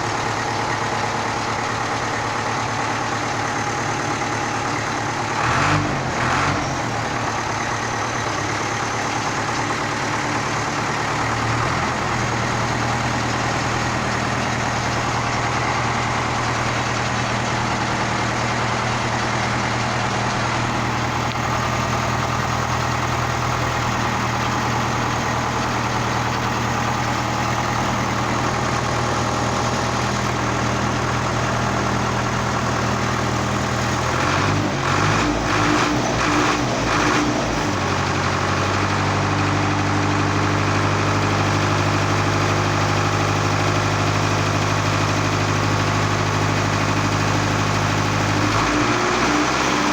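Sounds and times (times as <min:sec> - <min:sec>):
tractor diesel engine idling: 0:00.0 - 0:49.9.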